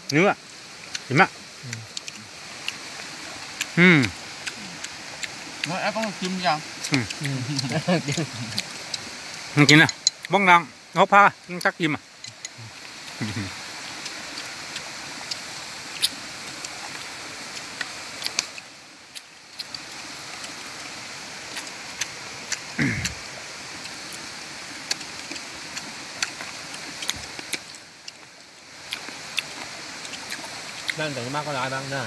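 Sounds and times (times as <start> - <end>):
rushing outdoor background noise: 0.0 - 32.0.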